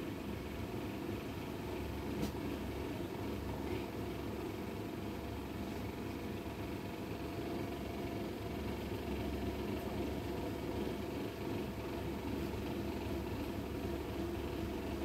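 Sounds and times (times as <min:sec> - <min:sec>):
low mechanical hum and rumble: 0:00.0 - 0:15.0.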